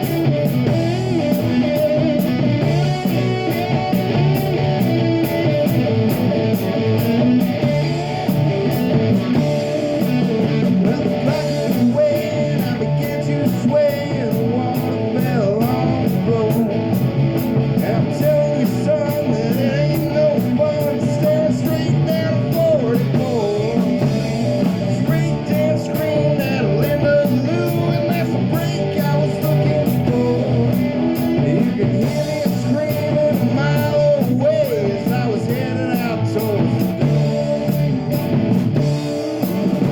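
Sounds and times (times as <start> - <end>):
bass guitar: 0.0 - 39.9
drums: 0.0 - 39.9
electric guitar: 0.0 - 39.9.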